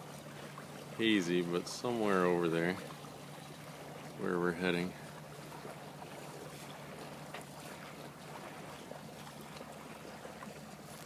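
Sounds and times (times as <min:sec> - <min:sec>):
water swishing along hull: 0:00.0 - 0:11.0.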